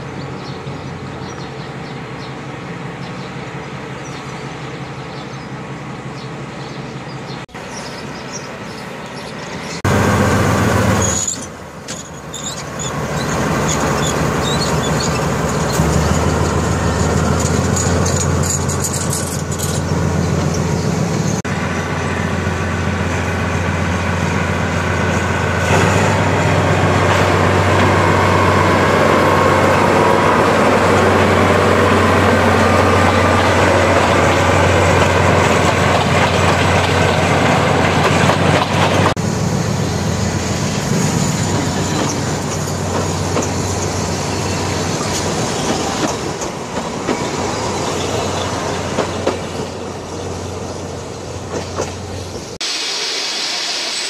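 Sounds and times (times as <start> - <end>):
diesel locomotive engine drone: 0.0 - 54.0
train coaches rolling: 0.0 - 54.0.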